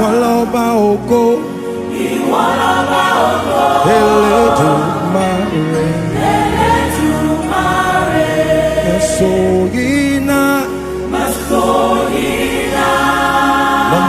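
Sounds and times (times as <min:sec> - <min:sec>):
gospel choir singing: 0:00.0 - 0:14.0
instrumental backing: 0:00.0 - 0:14.0.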